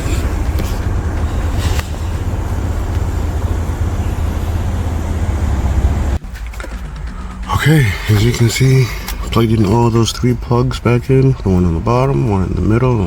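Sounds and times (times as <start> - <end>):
low rumble of motor vehicle: 0.0 - 13.0.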